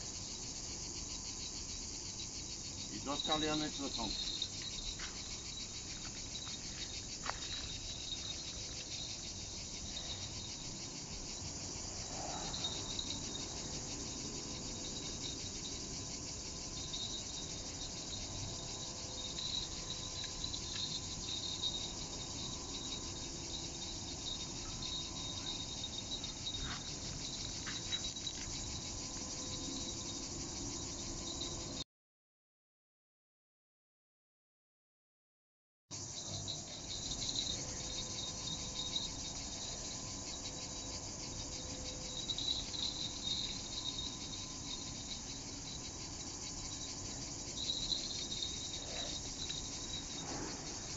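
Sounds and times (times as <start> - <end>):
insects buzzing: 0.0 - 31.8, 36.0 - 50.9.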